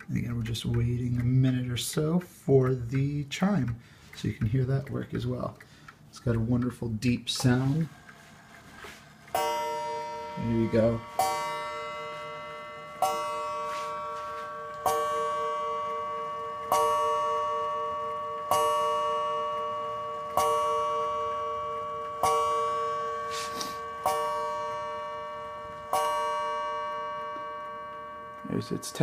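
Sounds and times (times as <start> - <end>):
mantel clock striking: 0.0 - 29.0.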